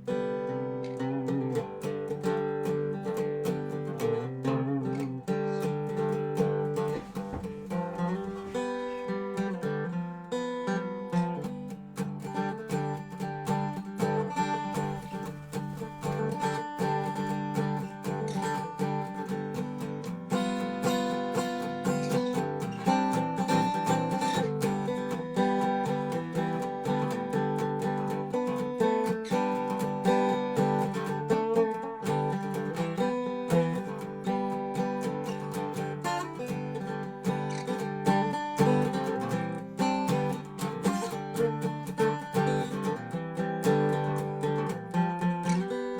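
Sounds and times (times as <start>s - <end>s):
resonator guitar plucked notes: 0.0s - 45.9s.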